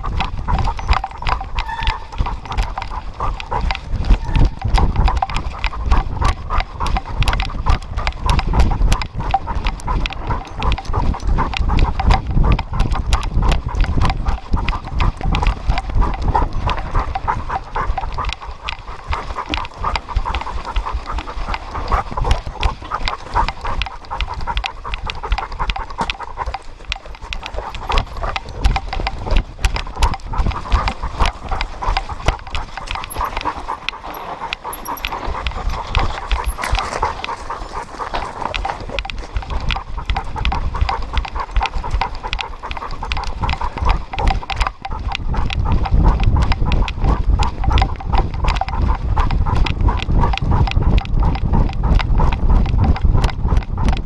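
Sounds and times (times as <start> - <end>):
dog panting: 0.0 - 54.0
paws pattering on dirt: 0.0 - 54.0.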